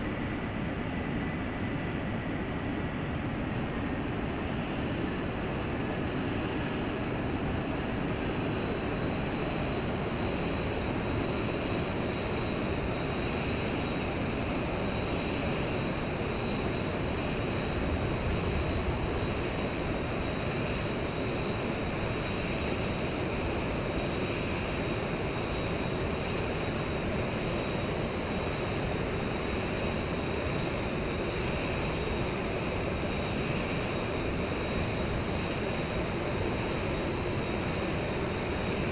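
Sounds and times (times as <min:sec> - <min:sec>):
airliner engine roar: 0:00.0 - 0:38.9.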